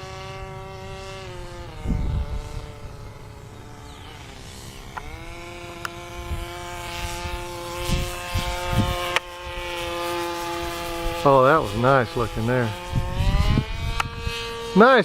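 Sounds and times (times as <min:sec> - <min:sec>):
model plane engine whining: 0:00.0 - 0:15.0.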